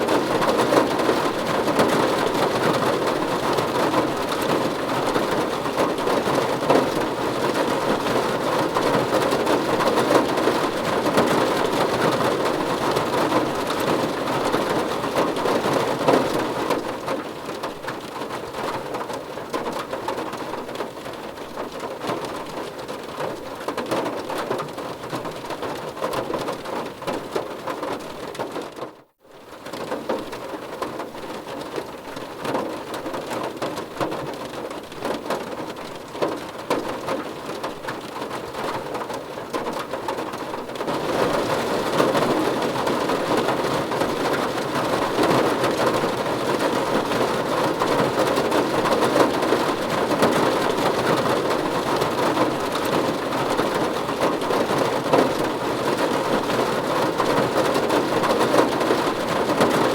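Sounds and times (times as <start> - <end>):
rain on car roof: 0.0 - 59.9.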